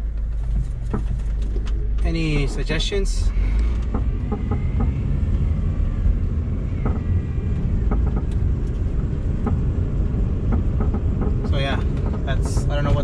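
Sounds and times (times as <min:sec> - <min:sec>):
car driving rumble: 0:00.0 - 0:13.0
suspension knocks and clicks: 0:00.0 - 0:13.0.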